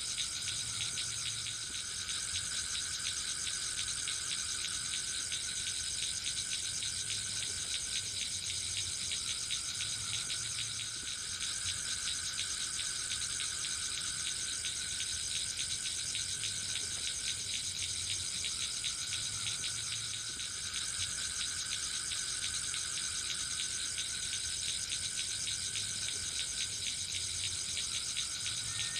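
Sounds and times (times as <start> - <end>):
crickets trilling: 0.0 - 28.9.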